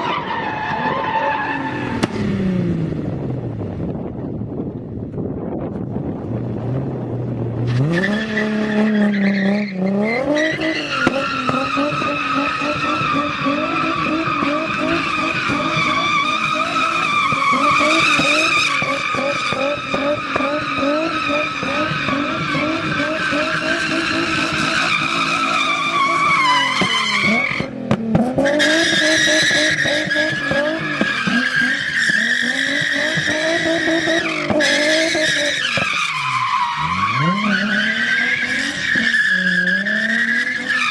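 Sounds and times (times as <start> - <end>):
car engine revving: 0.8 - 4.6, 5.6 - 40.9.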